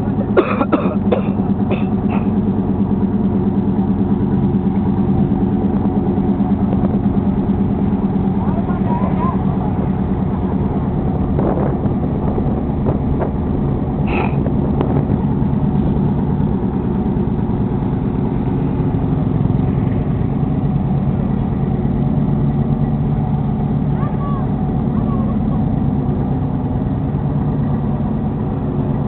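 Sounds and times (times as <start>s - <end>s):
boat engines droning: 0.0s - 29.0s.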